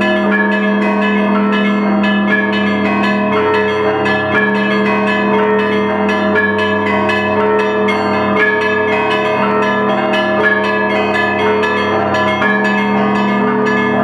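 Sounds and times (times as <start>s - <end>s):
hum of large bells: 0.0s - 14.0s
small bells ringing fast: 0.0s - 14.0s.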